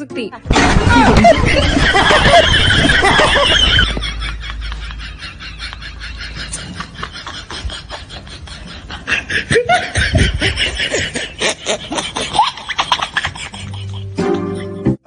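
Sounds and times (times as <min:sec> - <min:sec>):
laughter bursts: 0:00.5 - 0:15.0.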